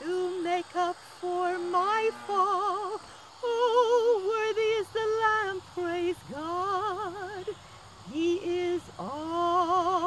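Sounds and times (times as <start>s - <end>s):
woman singing with vibrato: 0.0s - 10.0s.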